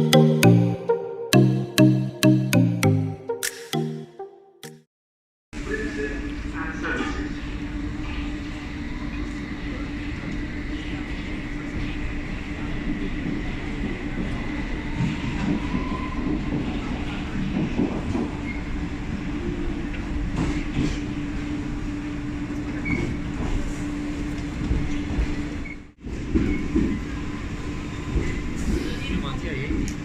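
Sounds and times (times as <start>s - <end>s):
underground train rumbling: 5.9s - 30.0s.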